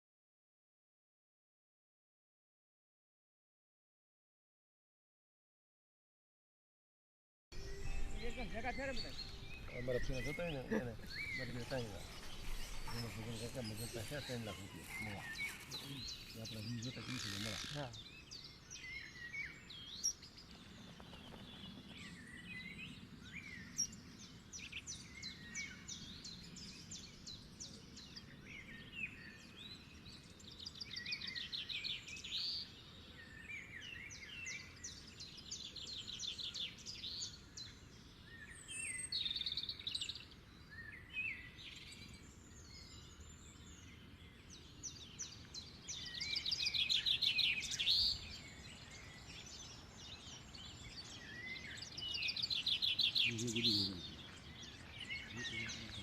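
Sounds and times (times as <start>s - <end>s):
birds chirping and trilling: 7.6s - 56.0s
outdoor background noise: 7.6s - 56.0s.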